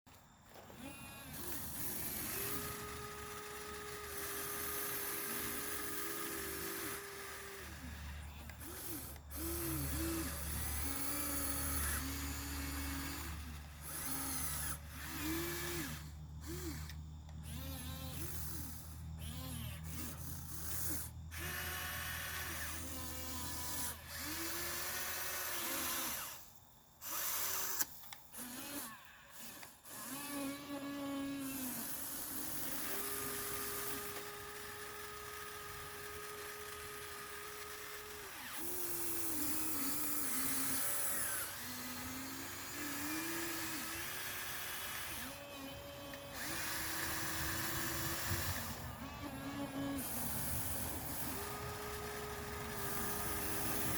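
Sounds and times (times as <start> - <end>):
small electric motors whining: 0.1 - 53.9.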